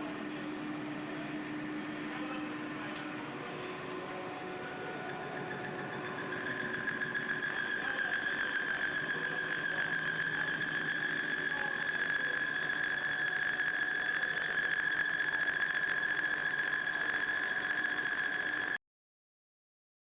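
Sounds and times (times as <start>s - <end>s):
metal lathe running: 0.0s - 18.8s.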